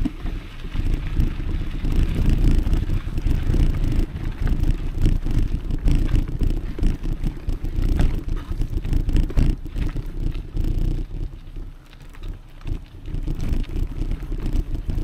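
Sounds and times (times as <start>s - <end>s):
bike rattling over stones: 0.0s - 15.0s
wind rumbling on microphone: 0.0s - 15.0s.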